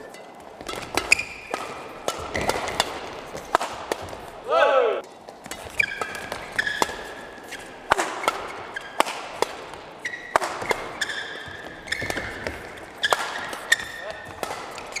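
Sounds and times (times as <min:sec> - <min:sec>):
shoes squeaking on court: 0:00.0 - 0:04.4, 0:05.0 - 0:15.0
rackets hitting shuttlecock: 0:00.0 - 0:15.0.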